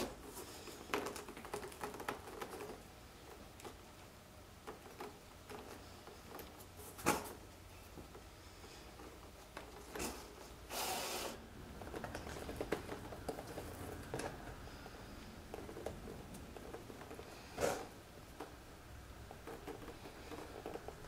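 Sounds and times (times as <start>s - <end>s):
needle clicks and leather rustles: 0.0s - 10.7s, 11.5s - 21.0s.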